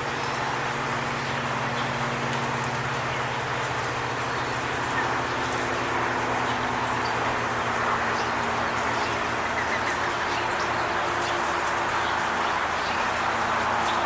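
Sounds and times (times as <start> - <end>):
mechanical hum: 0.0 - 14.0
rushing background noise: 0.0 - 14.0.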